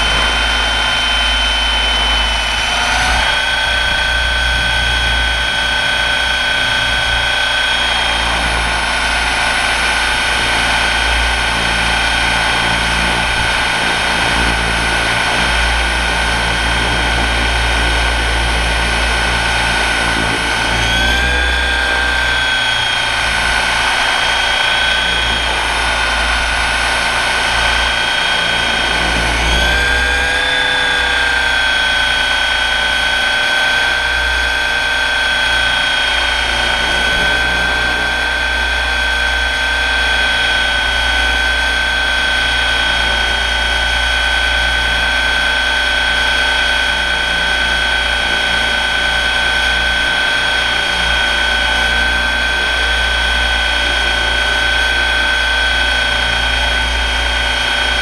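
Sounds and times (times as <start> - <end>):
electric motor whine: 0.0 - 58.0
helicopter rotor noise: 0.0 - 58.0.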